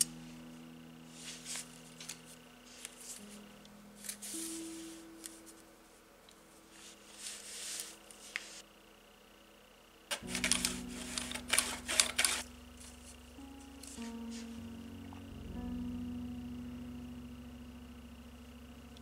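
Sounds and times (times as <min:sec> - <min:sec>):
faint background music: 0:00.0 - 0:08.6, 0:10.1 - 0:19.0.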